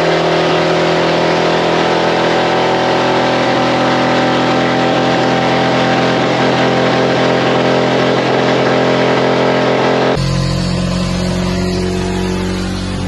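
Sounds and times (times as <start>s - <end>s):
pickup engine running at high speed: 0.0s - 13.0s.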